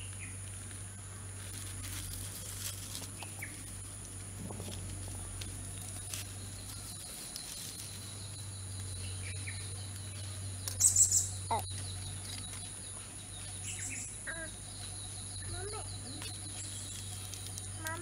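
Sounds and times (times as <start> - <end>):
birds chirping: 0.0 - 1.9, 3.0 - 18.0
low hum: 0.0 - 18.0.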